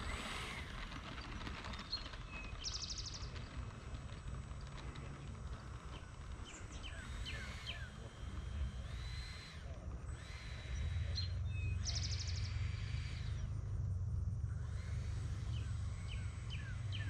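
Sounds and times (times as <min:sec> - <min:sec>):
birds chirping and whistling: 0:00.0 - 0:13.8, 0:14.5 - 0:17.0
wind rumbling on microphone: 0:00.0 - 0:17.0.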